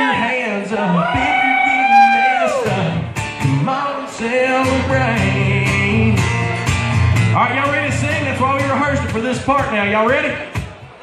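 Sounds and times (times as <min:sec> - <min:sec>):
man singing: 0:00.0 - 0:10.6
acoustic guitar strumming: 0:01.1 - 0:11.0.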